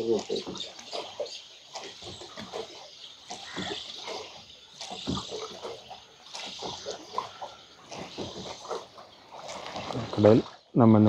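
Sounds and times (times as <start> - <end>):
water lapping against a boat: 0.0 - 11.0.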